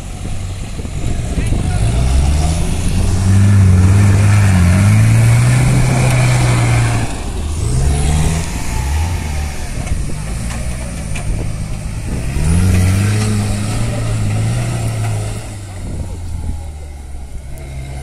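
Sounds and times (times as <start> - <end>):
wheels spinning and spraying sand: 0.0 - 18.0
suv engine revving hard: 0.8 - 16.6.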